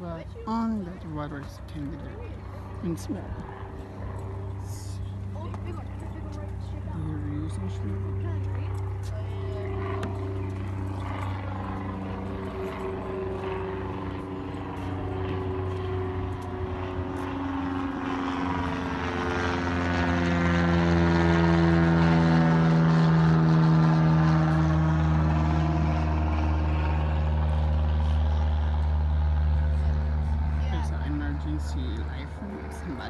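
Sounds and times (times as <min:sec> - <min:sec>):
propeller airplane flying overhead: 0:00.0 - 0:33.0.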